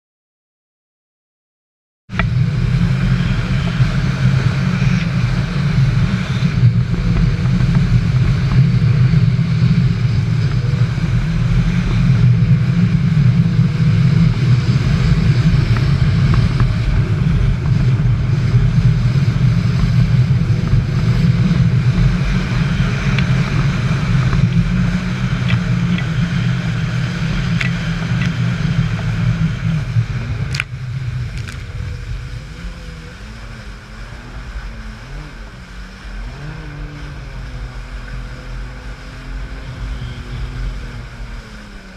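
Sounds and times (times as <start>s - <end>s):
jet ski engine running: 2.1s - 41.9s.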